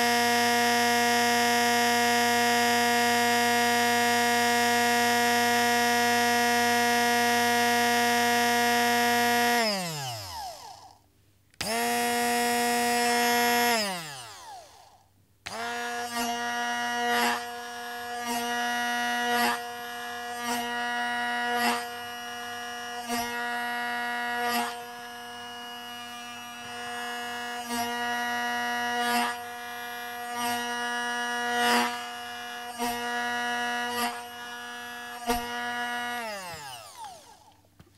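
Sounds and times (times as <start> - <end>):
blender motor running: 0.0 - 11.0, 11.6 - 37.6.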